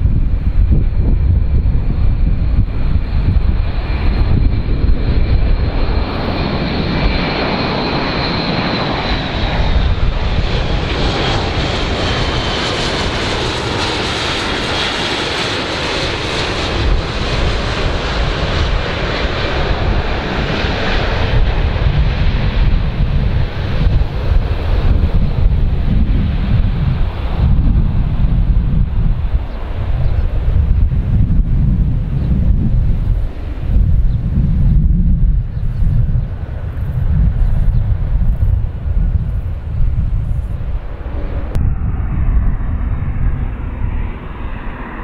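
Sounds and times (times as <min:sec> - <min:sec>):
turboprop aircraft flying past: 0:00.0 - 0:45.0.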